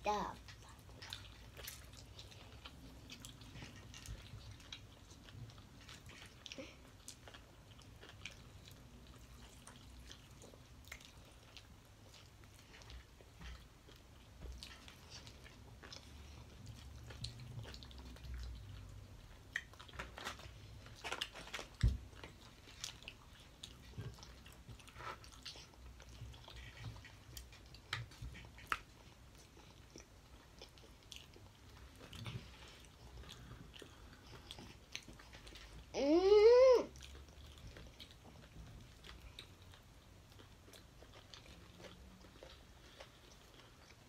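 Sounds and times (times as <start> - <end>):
people chewing and biting: 0.1 - 35.9, 36.9 - 44.0.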